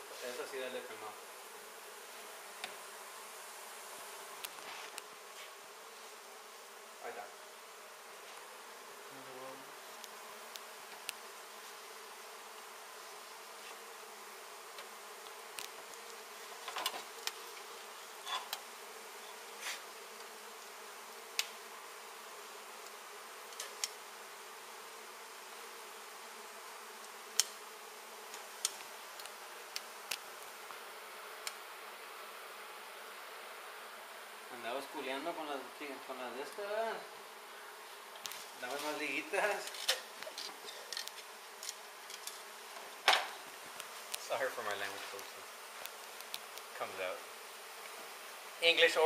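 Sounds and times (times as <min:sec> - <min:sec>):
honey bees buzzing: 0:00.0 - 0:49.0.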